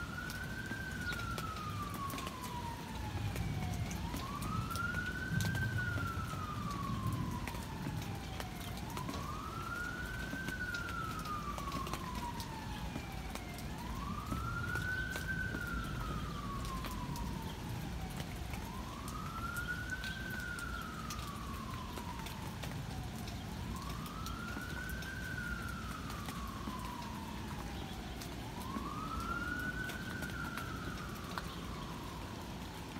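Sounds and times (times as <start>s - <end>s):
rain hissing: 0.0s - 32.9s
siren wailing: 0.0s - 32.9s.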